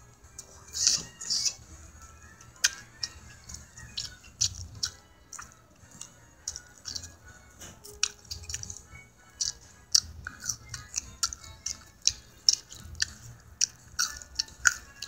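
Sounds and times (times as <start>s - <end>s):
mouth clicks: 2.4s - 15.0s
person chewing with lip smacks: 2.4s - 15.0s.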